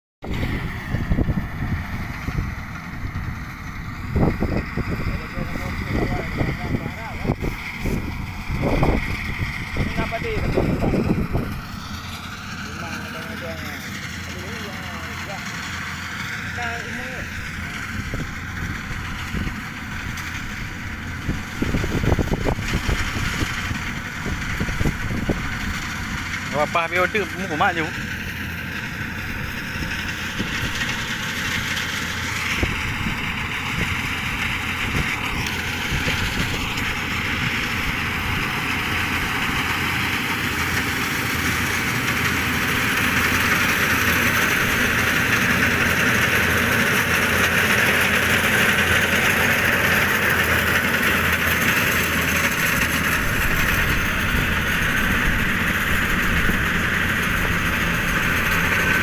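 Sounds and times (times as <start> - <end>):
harvester engine running: 0.2 - 59.0.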